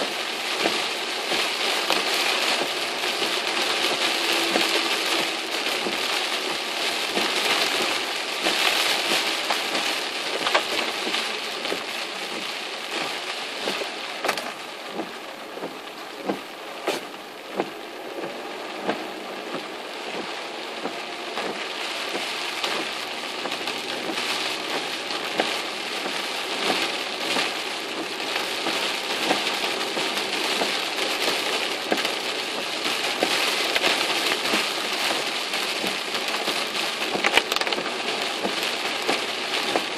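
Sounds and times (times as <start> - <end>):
heavy rain on car roof: 0.0 - 39.9
sharp raindrop ticks: 0.0 - 39.9.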